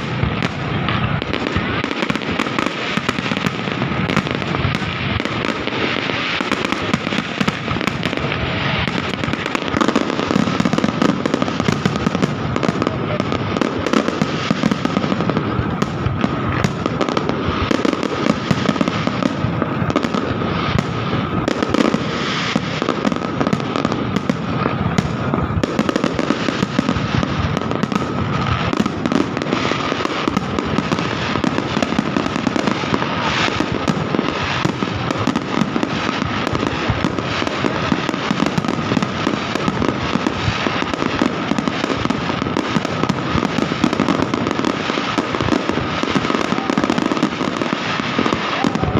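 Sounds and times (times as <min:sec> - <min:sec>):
fireworks crackling and popping: 0:00.0 - 0:48.9.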